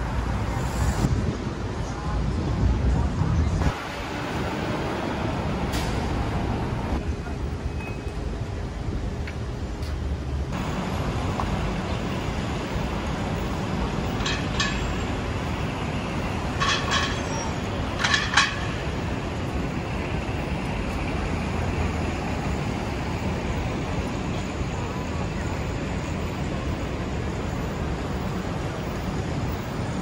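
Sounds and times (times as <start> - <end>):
city street traffic: 0.0 - 30.0.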